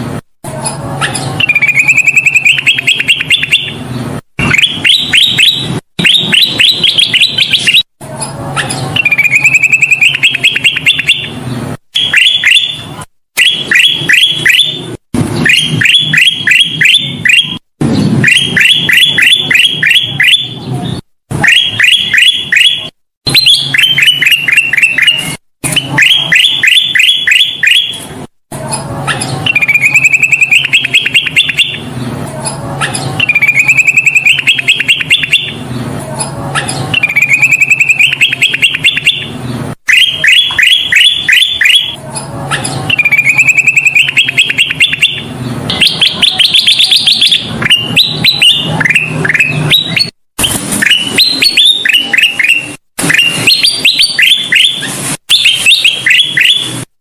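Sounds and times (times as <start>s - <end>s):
bulbul singing rapid trills: 0.7s - 7.9s, 8.5s - 17.6s, 18.2s - 20.7s, 21.4s - 28.1s, 29.1s - 35.8s, 36.6s - 50.2s.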